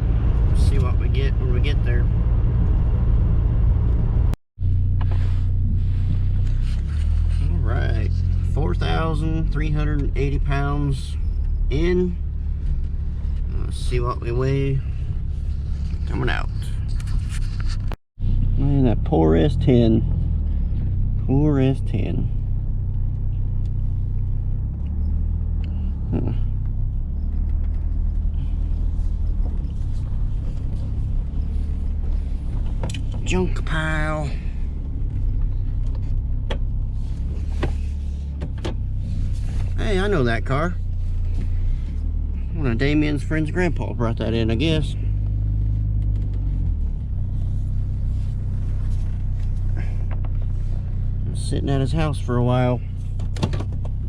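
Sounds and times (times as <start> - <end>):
pickup engine rumbling: 0.0 - 54.0.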